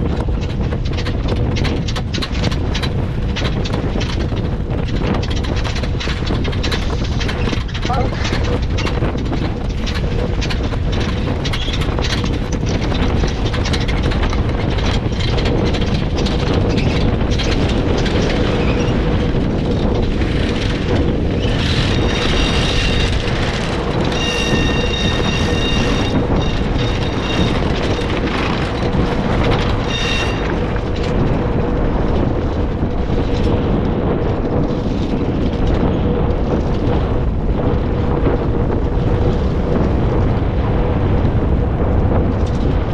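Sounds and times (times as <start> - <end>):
constant hum: 0.0 - 42.9
wind buffeting microphone: 0.0 - 42.9.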